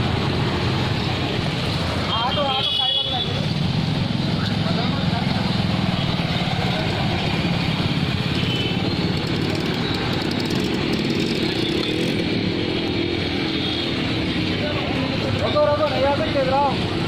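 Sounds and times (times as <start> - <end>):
motorcycles and scooters passing: 0.0 - 2.2, 3.3 - 17.0.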